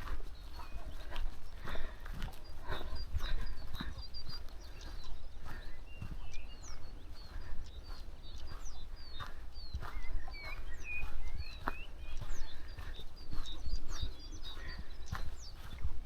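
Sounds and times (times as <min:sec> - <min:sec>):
footsteps walking: 0:00.0 - 0:16.0
small birds chirping: 0:00.0 - 0:16.0
wind on microphone: 0:00.0 - 0:16.0.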